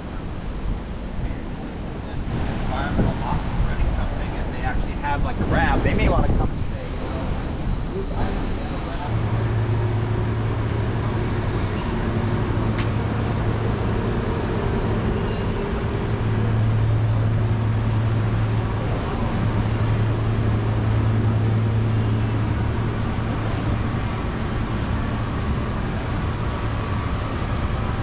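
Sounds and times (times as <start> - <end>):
low mechanical hum: 0.0 - 28.0
street noise: 0.0 - 28.0.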